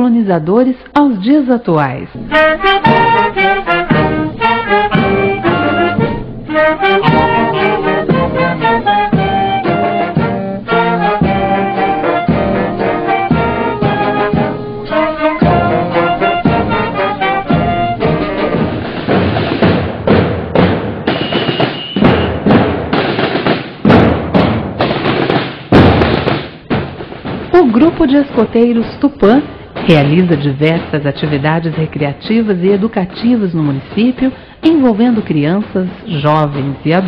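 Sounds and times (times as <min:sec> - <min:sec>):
brass band music with drums: 0:02.1 - 0:37.0
drum strokes: 0:02.1 - 0:37.0.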